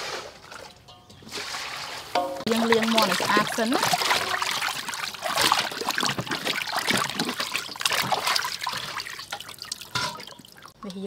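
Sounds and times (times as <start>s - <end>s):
water splashing in metal basin: 0.0s - 11.0s.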